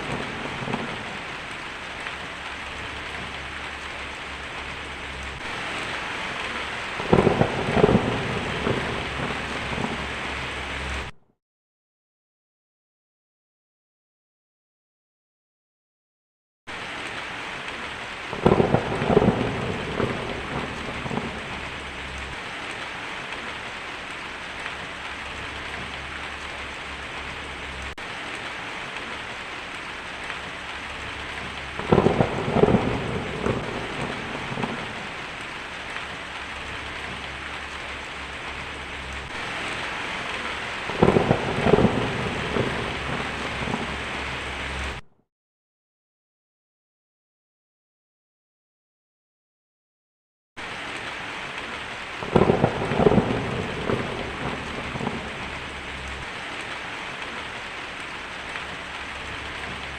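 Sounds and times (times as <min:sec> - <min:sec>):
heavy rain on a tin roof: 0:00.0 - 0:11.2, 0:16.7 - 0:45.0, 0:50.6 - 0:59.9
thunder claps and rumbles: 0:00.0 - 0:11.2, 0:16.7 - 0:45.0, 0:50.6 - 0:59.9.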